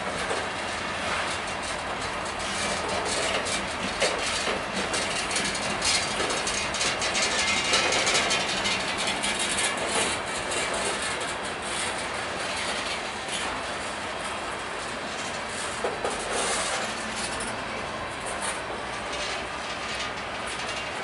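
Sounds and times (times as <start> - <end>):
train cars clicking and clanking: 0.0 - 21.0
train wheels rumbling on rail: 0.0 - 21.0.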